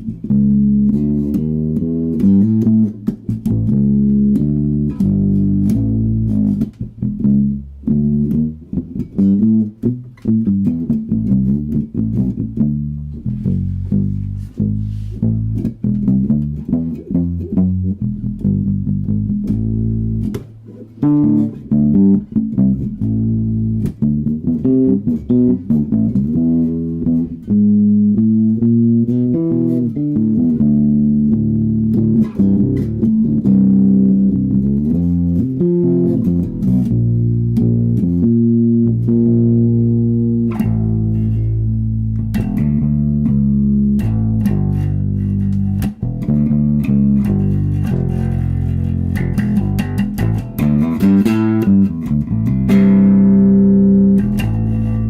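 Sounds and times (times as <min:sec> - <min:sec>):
electric bass guitar playing: 0:00.0 - 0:55.0.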